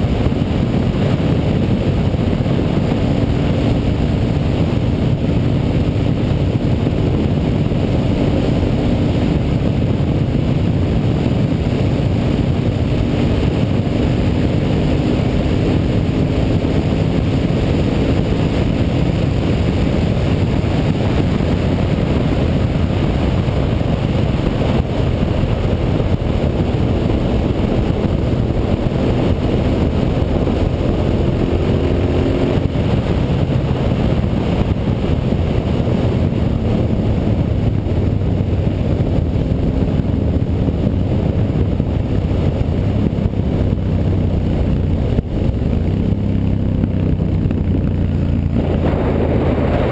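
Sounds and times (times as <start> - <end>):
motorcycle engine cruising: 0.0 - 49.9
wind and road noise: 0.0 - 49.9.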